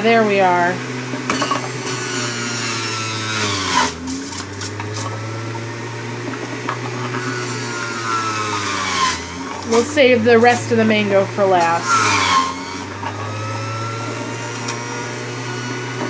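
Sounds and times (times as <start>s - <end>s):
electric juicer motor whine: 0.0s - 16.0s
fruit pushed down juicer chute: 0.9s - 16.0s.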